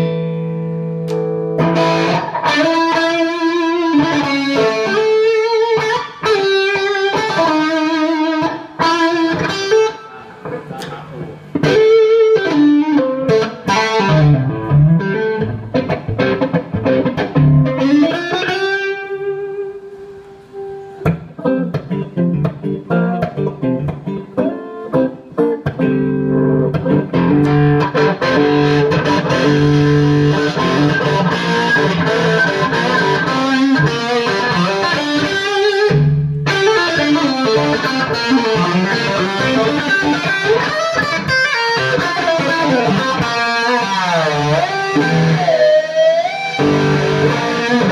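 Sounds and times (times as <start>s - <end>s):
electric guitar through an amplifier: 0.0s - 47.9s.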